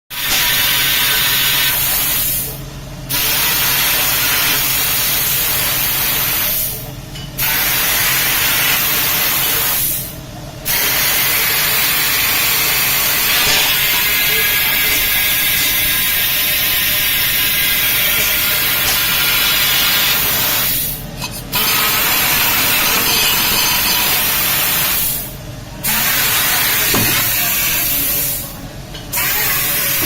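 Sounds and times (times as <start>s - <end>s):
plasma cutter hissing: 0.2s - 6.8s, 7.4s - 10.1s, 10.7s - 30.0s.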